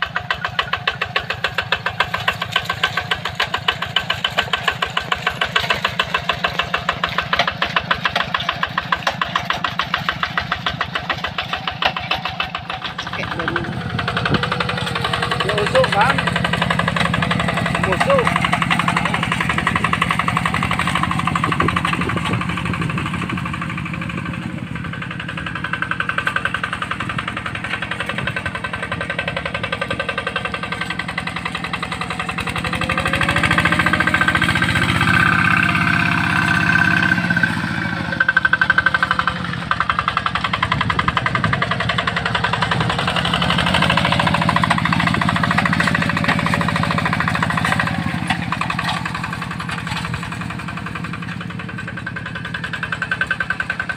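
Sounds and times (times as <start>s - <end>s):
diesel engine chugging: 0.0s - 53.9s.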